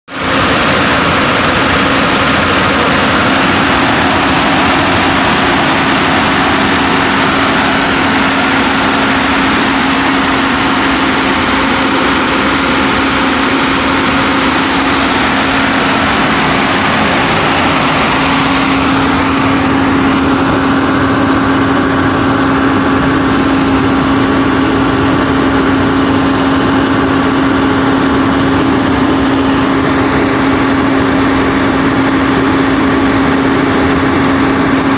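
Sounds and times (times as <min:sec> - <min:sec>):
diesel generator engine humming: 0:00.1 - 0:34.9.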